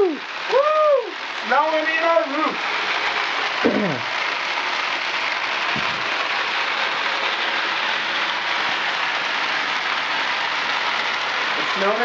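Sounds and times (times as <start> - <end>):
snow machine hissing: 0.0 - 12.0.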